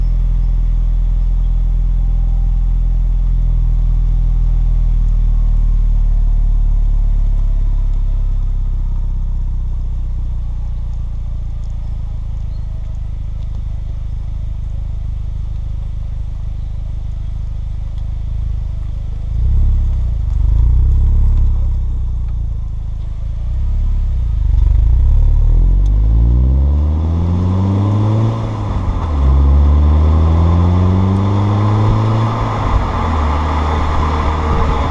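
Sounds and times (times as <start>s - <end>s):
car exhaust idling and revving: 0.0s - 34.9s.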